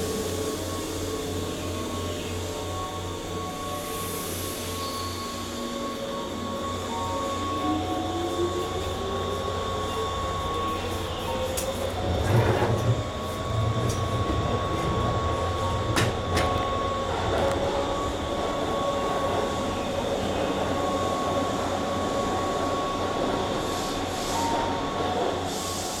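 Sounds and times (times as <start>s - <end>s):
train rumble and whine: 0.0s - 26.0s.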